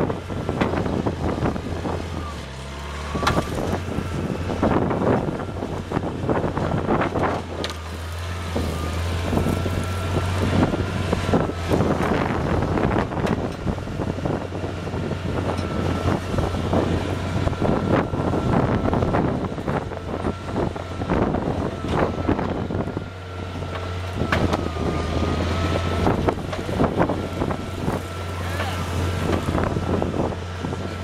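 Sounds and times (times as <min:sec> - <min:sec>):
loader engine running with whine: 0:00.0 - 0:31.0.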